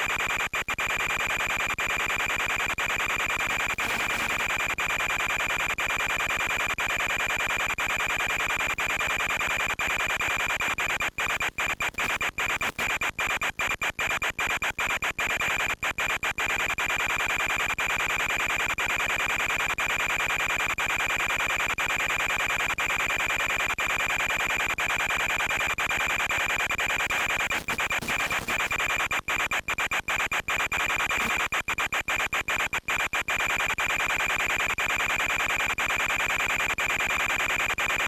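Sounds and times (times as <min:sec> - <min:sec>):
electronic static hiss and buzz: 0:00.1 - 0:05.8, 0:06.8 - 0:20.4, 0:22.4 - 0:38.0.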